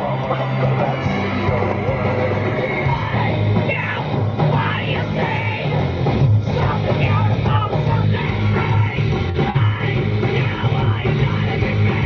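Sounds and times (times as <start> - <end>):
electric guitar: 0.0 - 12.0
heavy bass line: 0.0 - 12.0
person singing: 0.0 - 12.0
rock music: 0.0 - 12.0.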